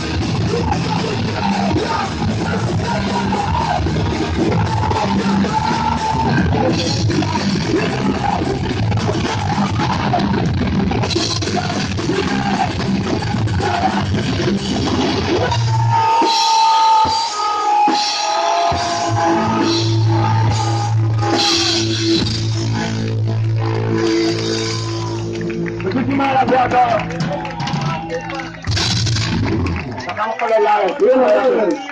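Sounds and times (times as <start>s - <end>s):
punk band playing loud: 0.0s - 30.8s.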